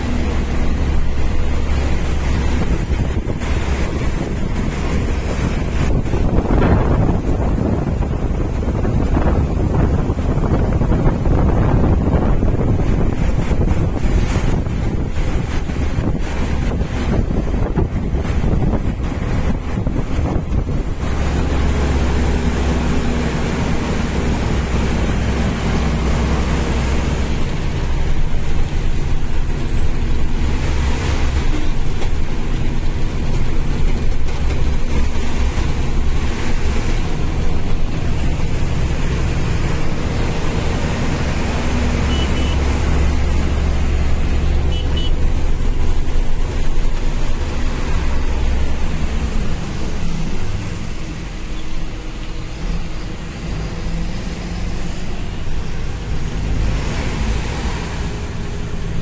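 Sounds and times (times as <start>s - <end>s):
truck engine running: 0.0s - 59.0s
tyre and wind noise on wet road: 0.0s - 59.0s.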